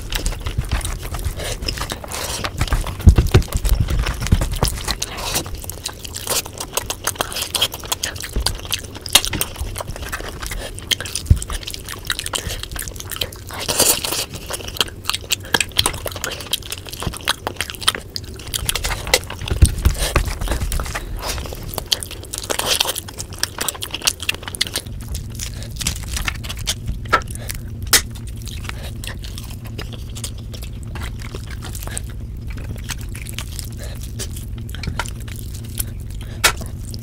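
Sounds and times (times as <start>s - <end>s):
chewing and biting food: 0.0s - 37.0s.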